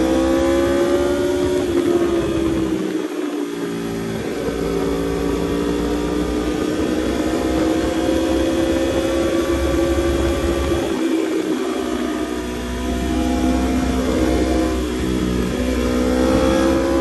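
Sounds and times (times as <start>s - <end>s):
motorcycle engine at speed: 0.0s - 17.0s.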